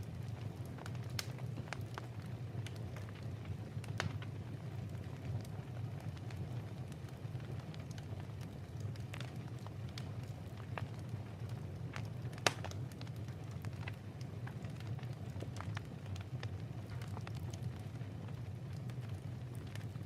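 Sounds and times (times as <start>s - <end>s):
fire low rumble: 0.0s - 20.0s
fire popping: 0.0s - 20.0s
wood fire crackling: 0.0s - 20.0s.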